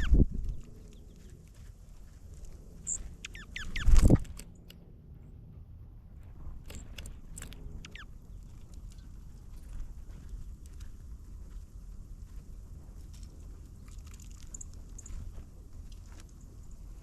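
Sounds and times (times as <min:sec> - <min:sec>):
small birds chirping: 0:00.0 - 0:04.8, 0:06.7 - 0:12.6, 0:13.3 - 0:17.0.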